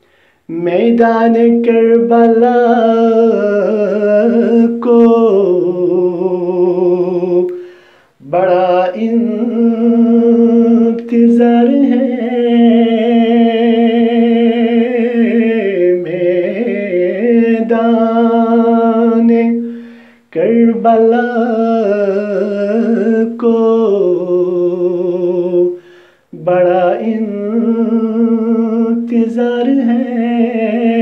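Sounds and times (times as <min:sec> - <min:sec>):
man singing solo: 0:00.5 - 0:31.0.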